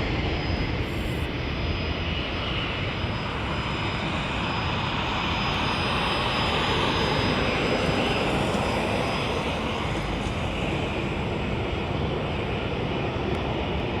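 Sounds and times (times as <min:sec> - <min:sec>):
jet engines running loud: 0:00.0 - 0:14.0.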